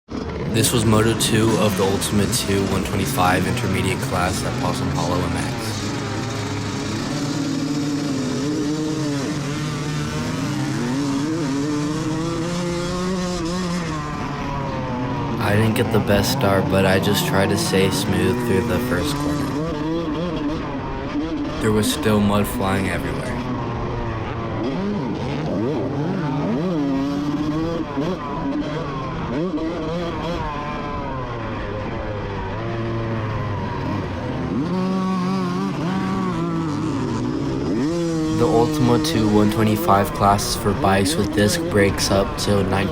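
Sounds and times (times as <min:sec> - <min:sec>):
two-stroke motorbike engines revving: 0:00.1 - 0:42.9.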